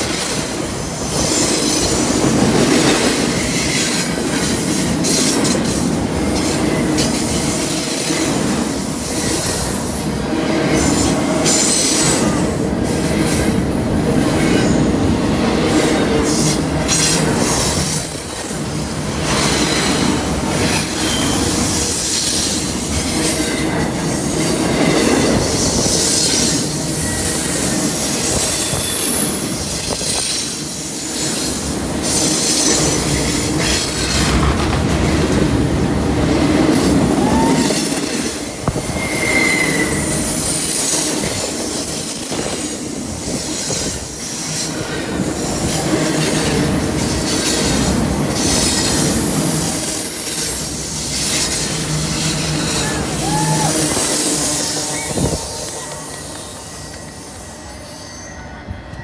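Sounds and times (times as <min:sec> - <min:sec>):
freight train rumbling past: 0:00.0 - 0:59.0
train wheel squeal: 0:00.0 - 0:59.0.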